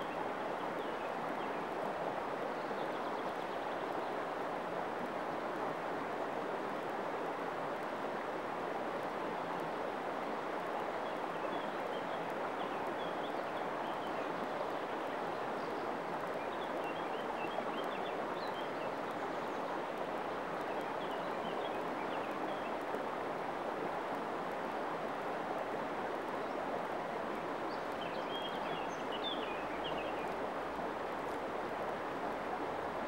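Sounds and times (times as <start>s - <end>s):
river water running over stones: 0.0s - 33.0s.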